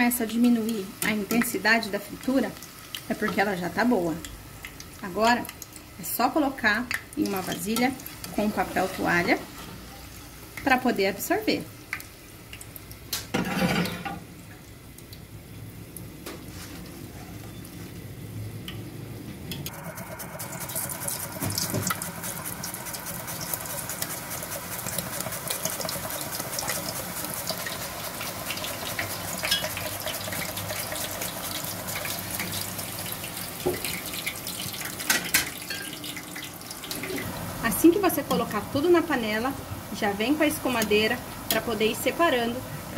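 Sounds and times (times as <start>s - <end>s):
plantain deep-frying in hot oil: 0.0s - 18.9s, 19.7s - 42.9s.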